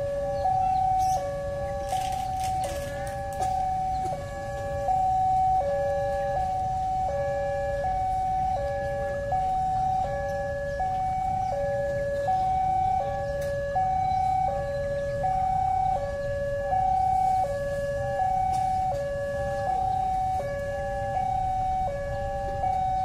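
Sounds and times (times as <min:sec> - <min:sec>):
two-tone level-crossing siren: 0:00.0 - 0:23.0.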